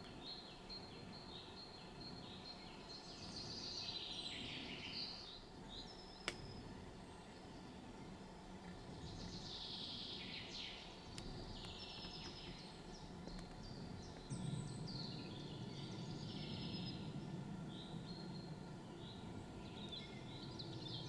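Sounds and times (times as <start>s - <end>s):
low background rumble: 0.0s - 21.0s
songbirds trilling and chirping: 0.0s - 21.0s.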